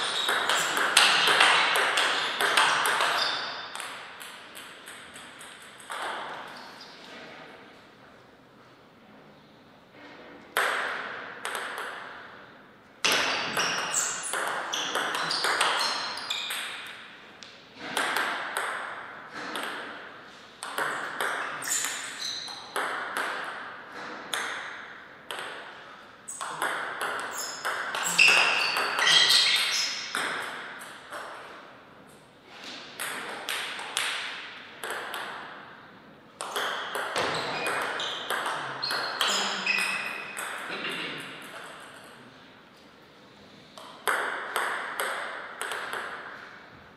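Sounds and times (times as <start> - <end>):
ball bouncing on table: 0.0 - 6.6, 10.5 - 12.3, 13.0 - 31.5, 33.0 - 35.6, 36.4 - 42.1, 43.8 - 46.5
ping pong ball clicking off paddles: 0.0 - 6.8, 10.5 - 12.4, 13.0 - 32.2, 32.9 - 35.7, 36.4 - 42.2, 43.8 - 46.5.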